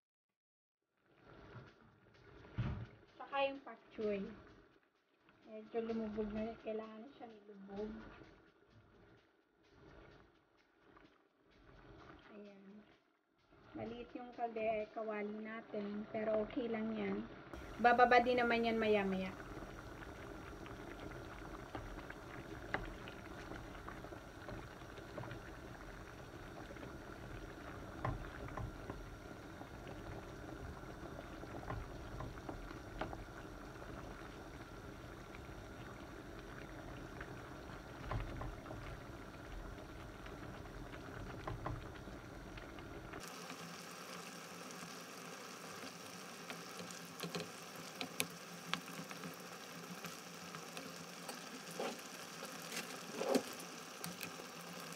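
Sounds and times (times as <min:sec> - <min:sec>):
crackling sizzle: 0:01.0 - 0:54.9
stew bubbling in a pan: 0:01.1 - 0:54.9.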